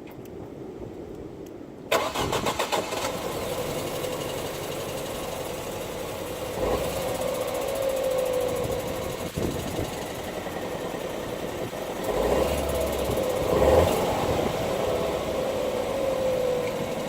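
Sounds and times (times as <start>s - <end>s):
car engine cranking and idling: 1.9s - 17.0s.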